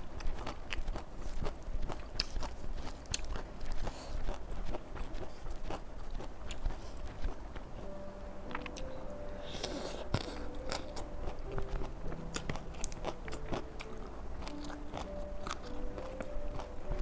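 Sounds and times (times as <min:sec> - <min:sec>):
chewing raw vegetables: 0:00.0 - 0:17.0.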